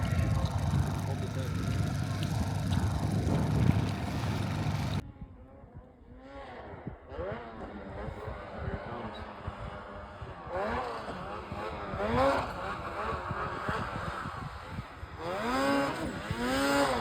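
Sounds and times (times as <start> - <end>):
snowmobile engine revving: 0.0 - 5.0, 6.2 - 17.0.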